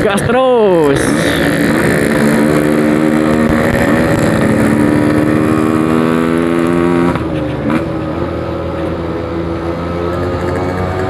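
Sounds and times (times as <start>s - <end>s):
two-stroke motorcycle engine accelerating: 0.0s - 11.0s.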